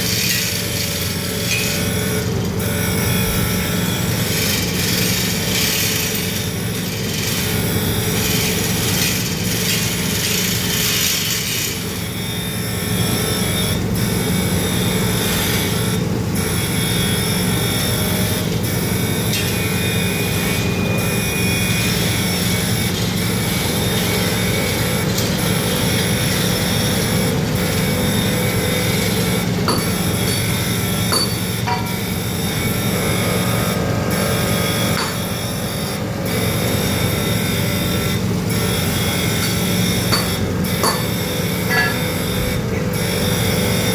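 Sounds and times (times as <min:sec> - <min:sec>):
grinding wheel rasping: 0:00.0 - 0:16.0, 0:16.6 - 0:43.9
machine hum: 0:00.0 - 0:43.9.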